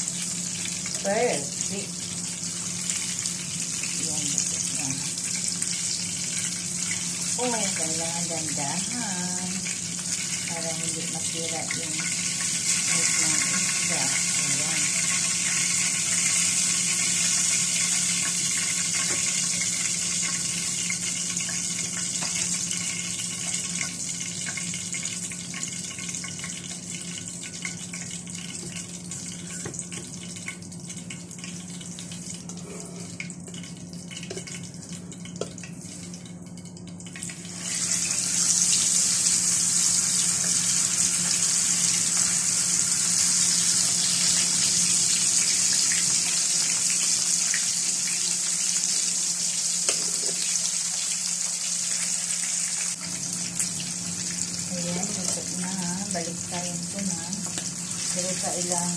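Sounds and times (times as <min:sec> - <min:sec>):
hot oil sizzling in a frying pan: 0:00.0 - 0:58.9.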